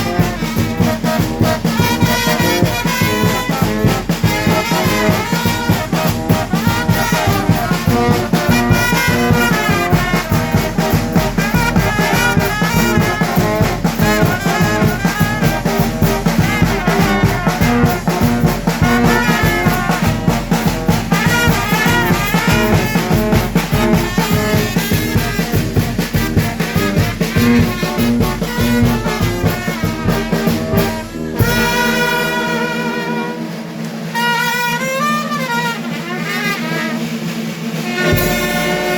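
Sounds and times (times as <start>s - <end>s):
brass band playing: 0.0s - 38.9s
drum beat: 0.0s - 38.9s.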